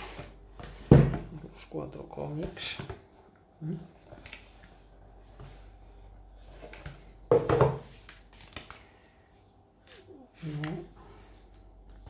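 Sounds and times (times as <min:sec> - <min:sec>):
comic books rustling: 0:00.0 - 0:12.0.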